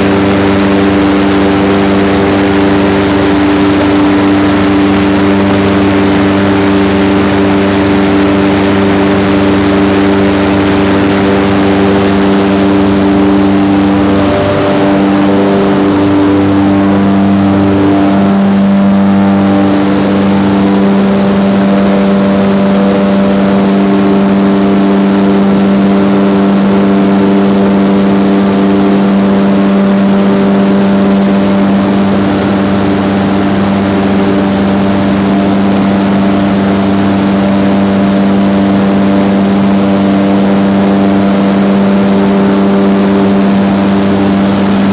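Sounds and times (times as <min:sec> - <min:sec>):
humming steady tones: 0:00.0 - 0:44.9
large ventilation fan drone: 0:00.0 - 0:44.9.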